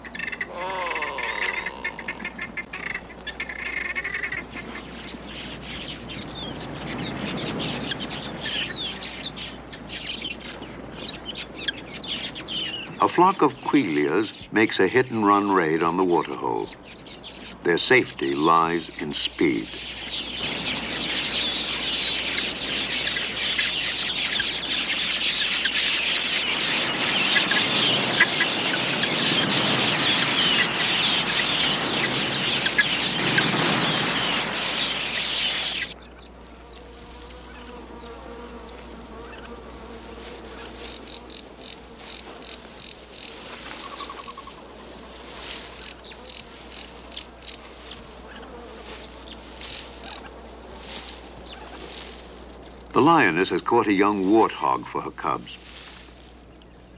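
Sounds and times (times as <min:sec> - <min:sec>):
flock of birds twittering: 0:00.0 - 0:56.9
insect chirps: 0:00.0 - 0:56.9
insect trill: 0:00.1 - 0:16.8, 0:17.6 - 0:56.4.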